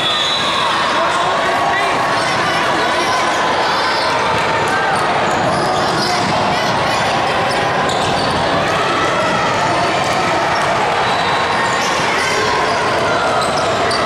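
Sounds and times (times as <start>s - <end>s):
hubbub of spectators' voices: 0.0s - 14.0s.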